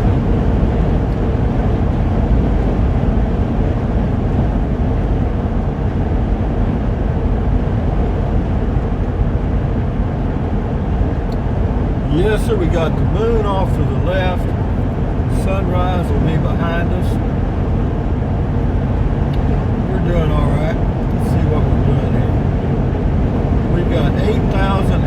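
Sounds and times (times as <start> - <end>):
engine drone: 0.0 - 25.0
road noise: 0.0 - 25.0.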